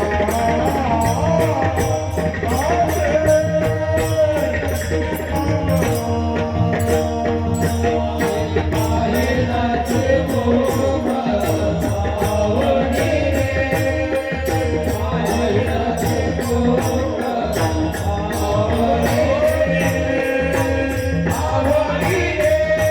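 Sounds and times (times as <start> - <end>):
man singing devotional melody: 0.0 - 22.9.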